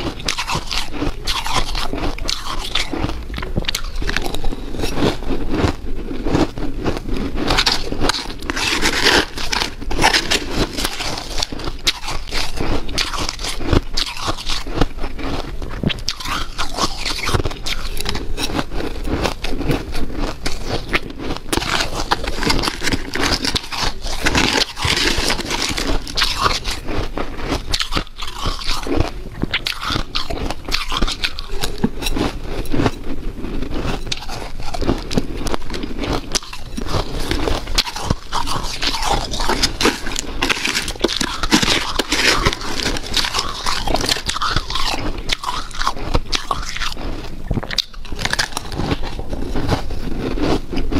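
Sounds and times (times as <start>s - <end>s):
person chewing crunchy ice: 0.0s - 50.9s.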